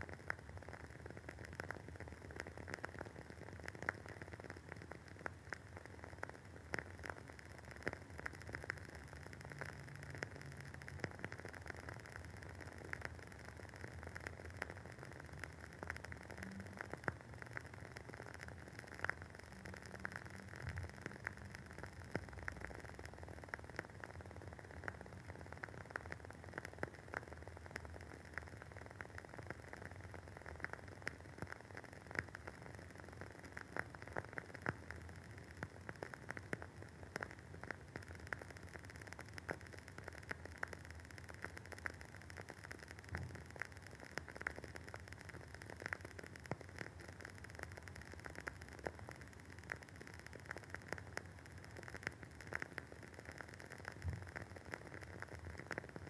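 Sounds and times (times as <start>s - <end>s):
candle wick crackling: 0.0s - 56.0s
faint steady hiss: 0.0s - 56.0s.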